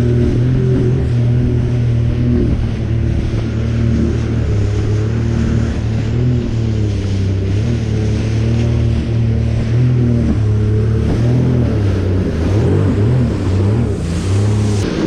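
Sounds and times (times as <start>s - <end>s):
jet ski engine running: 0.0s - 15.0s.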